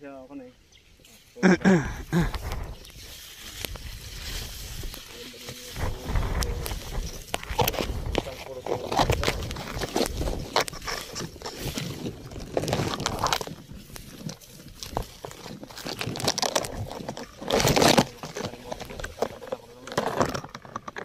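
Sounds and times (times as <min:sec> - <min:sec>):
leaves and stems rustling: 0:00.1 - 0:21.0.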